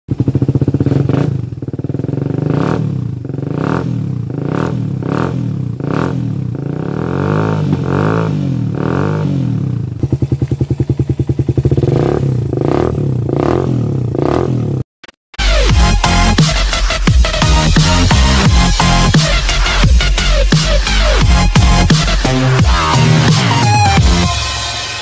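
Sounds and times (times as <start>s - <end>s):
motorcycle engine revving: 0.1s - 14.9s, 15.5s - 25.0s.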